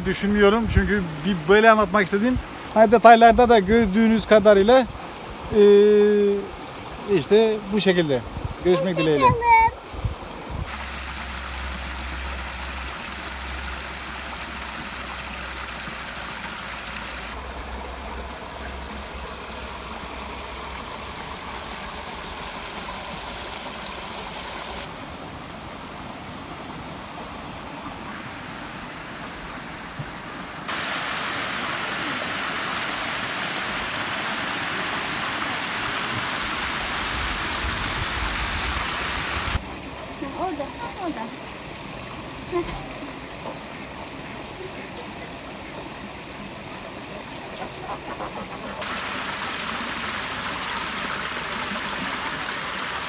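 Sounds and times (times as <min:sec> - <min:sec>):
stream water over stones: 0:00.0 - 0:53.0.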